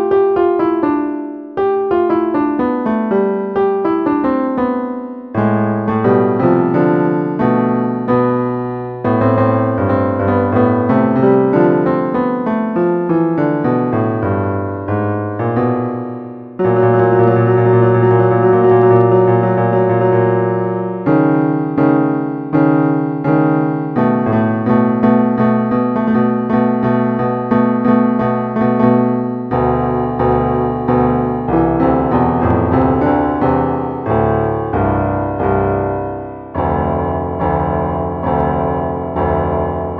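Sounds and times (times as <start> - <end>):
piano melody: 0.0 - 39.9.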